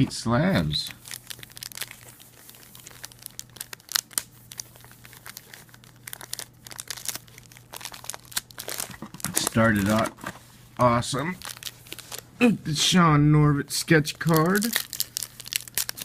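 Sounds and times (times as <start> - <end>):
faint steady hum: 0.0 - 16.0
plastic wrappers crinkling and tearing: 0.6 - 10.5, 11.1 - 12.3, 14.0 - 16.0.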